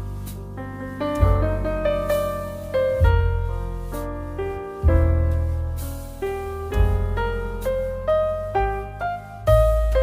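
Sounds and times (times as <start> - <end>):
gentle piano music: 0.0 - 10.0.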